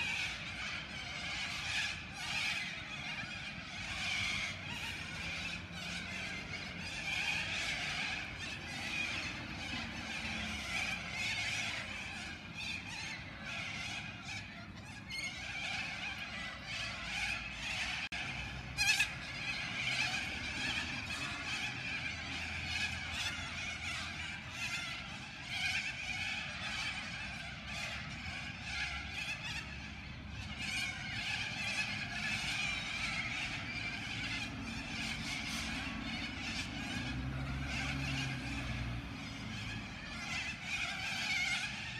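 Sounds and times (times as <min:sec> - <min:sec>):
flock of birds screeching: 0:00.0 - 0:41.9.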